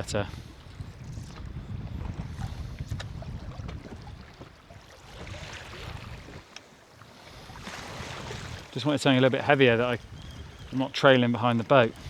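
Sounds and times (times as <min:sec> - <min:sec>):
wind buffeting microphone: 0:00.0 - 0:06.5, 0:07.3 - 0:12.0
water washing against boat hull: 0:00.0 - 0:12.0.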